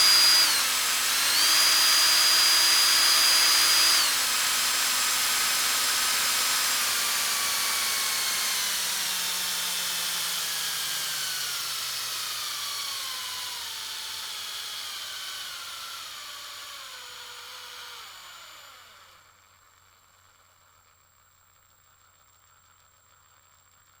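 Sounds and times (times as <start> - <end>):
electric drill motor spinning down: 0.0 - 19.6.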